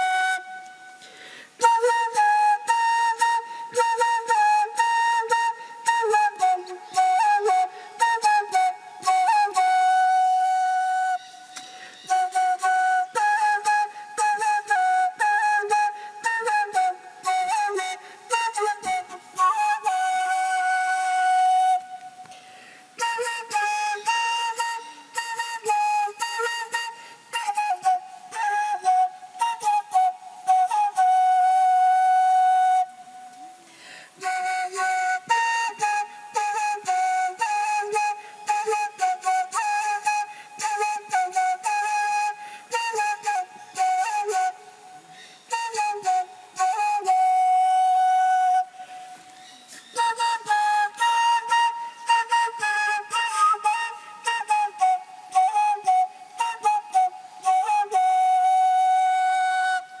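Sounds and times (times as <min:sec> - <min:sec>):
solo flute melody: 0:00.0 - 1:00.0.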